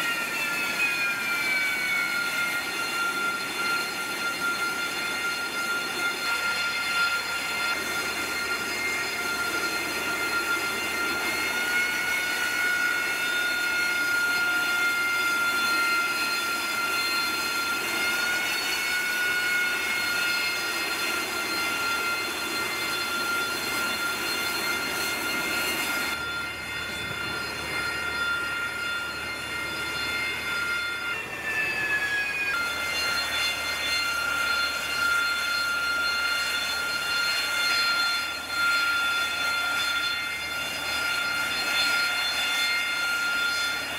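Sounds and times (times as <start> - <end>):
jet engine high whine: 0.0 - 43.9.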